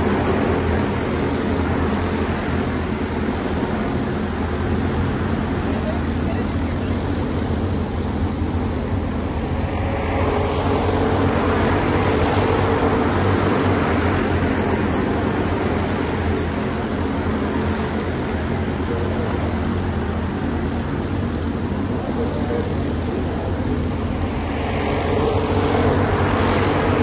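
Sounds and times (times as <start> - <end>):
race car engines: 0.0 - 27.0.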